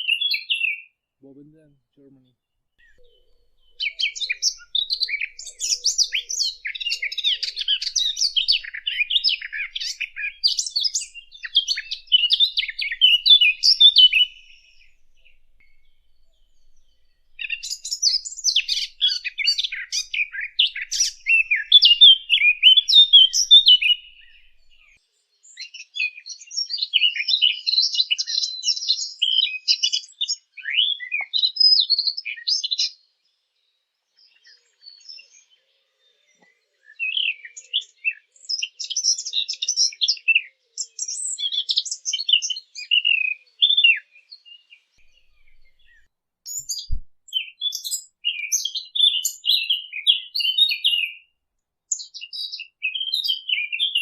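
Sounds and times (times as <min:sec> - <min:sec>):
warbler singing: 0:00.0 - 0:02.2, 0:02.8 - 0:32.9, 0:34.2 - 0:51.3, 0:51.9 - 0:54.0.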